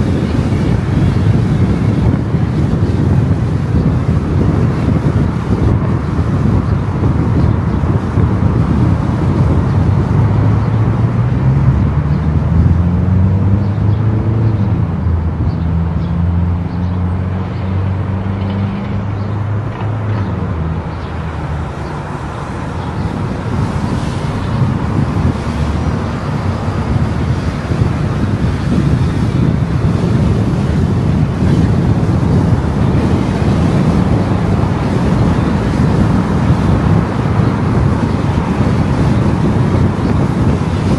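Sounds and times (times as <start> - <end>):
car engine hum: 0.0 - 40.9
tyre and wind rumble: 0.0 - 40.9.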